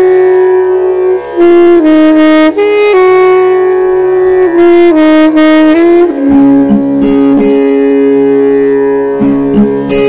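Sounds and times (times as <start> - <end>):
wind instrument slow melody: 0.0 - 10.0.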